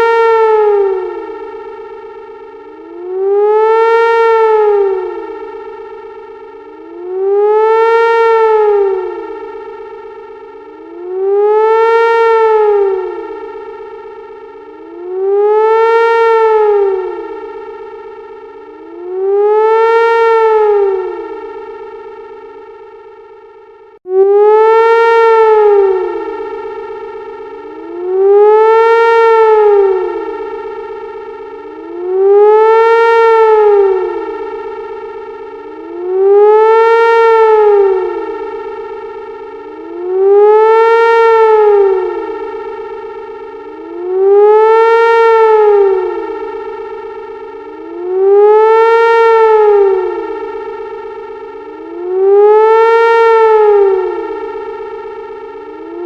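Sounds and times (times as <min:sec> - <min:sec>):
steady synth drone: 0:00.0 - 0:56.0
synthesized siren rising and falling: 0:00.0 - 0:56.0.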